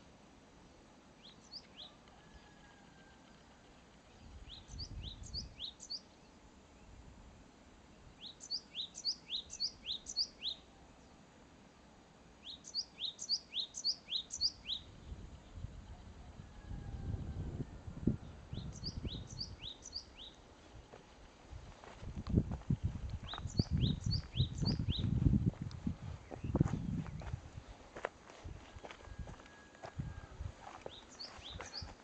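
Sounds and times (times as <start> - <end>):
songbird singing: 0.0 - 7.0, 7.9 - 32.0.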